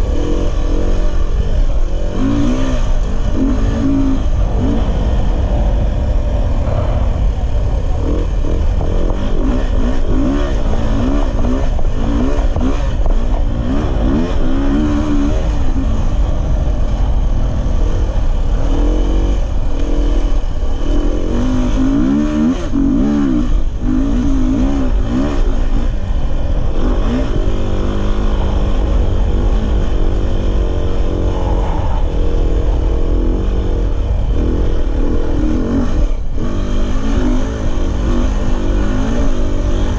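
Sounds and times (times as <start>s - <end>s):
dirt bike engine revving: 0.0s - 39.9s
wind rumble on microphone: 0.0s - 39.9s.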